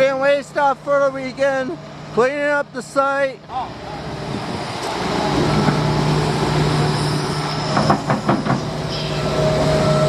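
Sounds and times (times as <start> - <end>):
heavy machine engine running: 0.1 - 10.0.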